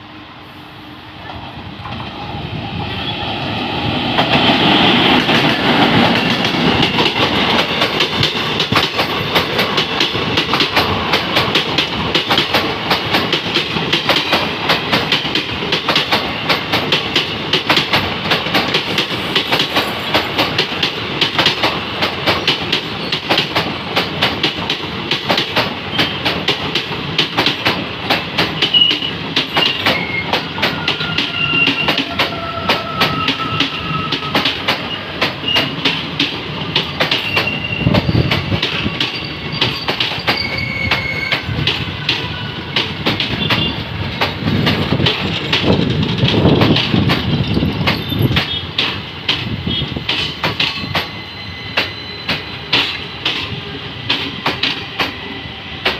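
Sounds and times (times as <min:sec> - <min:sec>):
train wheels clattering: 0:04.0 - 0:55.2.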